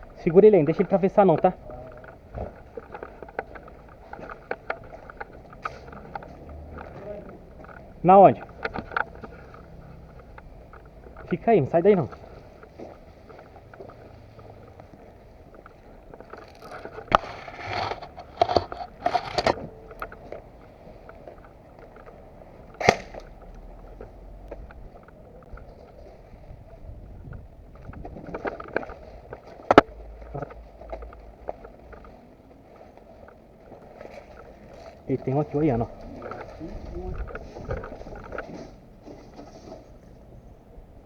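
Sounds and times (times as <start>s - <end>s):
rustling: 0.0s - 40.2s.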